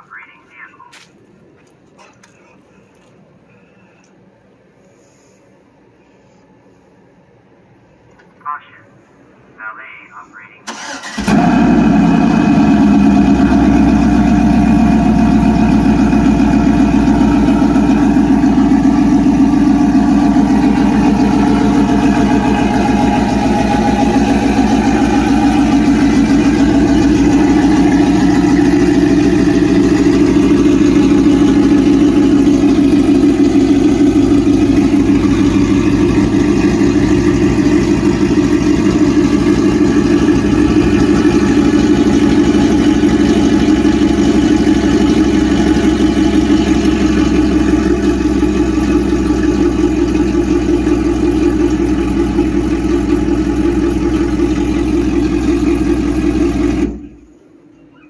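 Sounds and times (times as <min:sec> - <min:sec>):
car engine idling loudly: 0:10.7 - 0:57.5.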